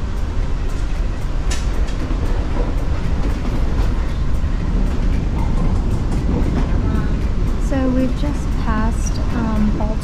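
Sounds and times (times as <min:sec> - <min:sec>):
train wheel and car-body rush: 0:00.0 - 0:10.0.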